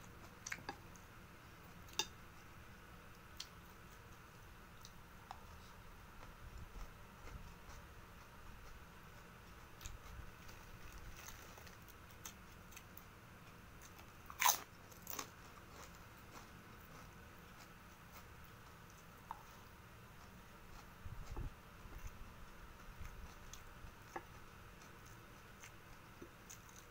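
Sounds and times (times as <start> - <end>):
person chewing with soft crunching: 0.0 - 26.9.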